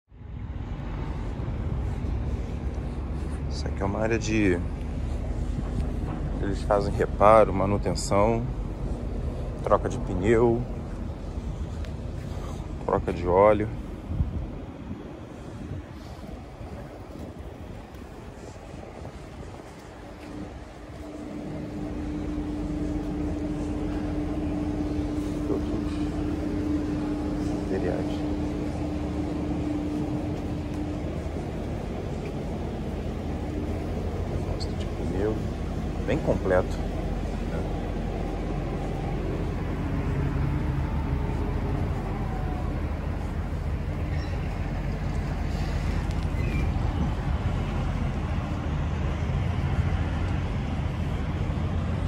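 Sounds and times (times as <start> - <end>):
low mechanical drone: 0.1 - 52.0
machinery humming and rumbling: 0.1 - 52.0.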